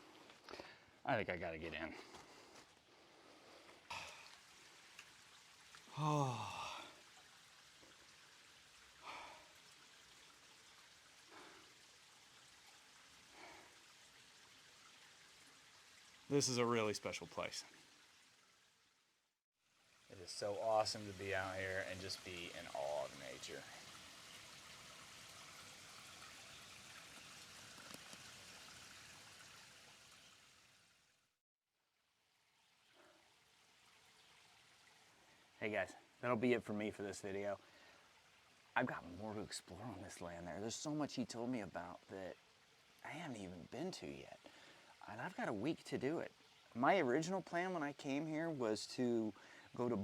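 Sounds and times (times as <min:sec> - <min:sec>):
faint steady hiss: 0:00.0 - 0:18.8, 0:19.8 - 0:31.3, 0:32.1 - 0:50.0.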